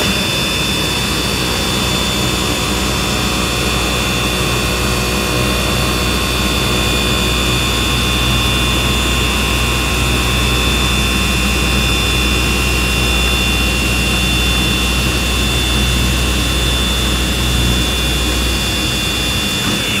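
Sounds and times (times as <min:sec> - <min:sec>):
cutting machine drone: 0:00.0 - 0:20.0.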